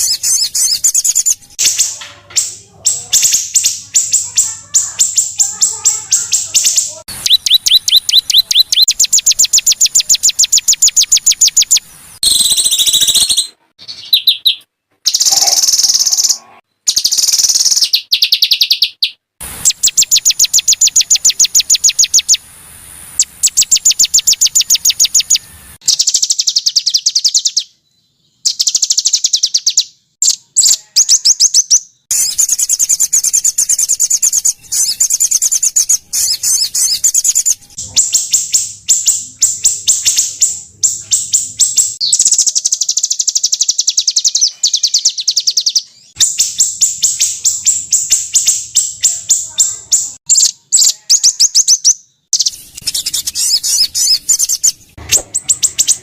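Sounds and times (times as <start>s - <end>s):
songbirds trilling: 0.0s - 22.4s, 23.2s - 27.7s, 28.3s - 56.0s.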